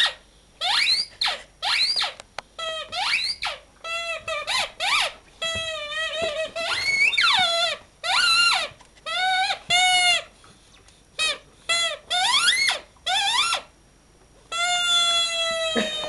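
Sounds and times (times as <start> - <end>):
dog toy squeaking: 0.0 - 10.3, 11.2 - 13.7, 14.5 - 16.0.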